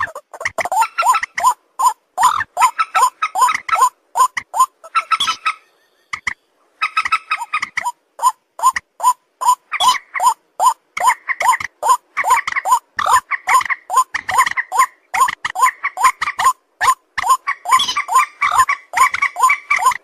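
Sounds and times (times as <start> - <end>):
animal squeaky calls: 0.0 - 20.0.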